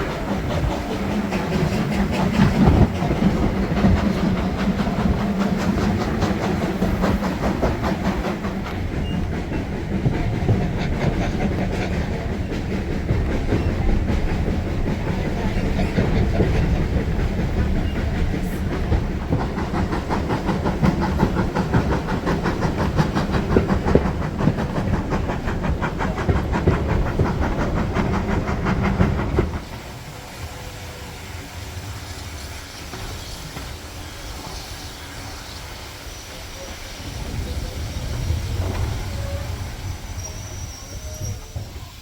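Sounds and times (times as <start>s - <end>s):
wheels clattering on track: 0.0s - 30.7s, 36.4s - 42.0s
railway carriage rumble: 0.0s - 42.0s.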